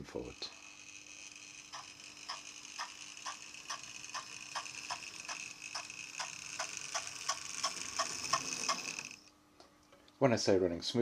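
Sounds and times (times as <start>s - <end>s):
model train motor whine: 0.0s - 9.3s
regular mechanical ticking: 0.2s - 9.3s.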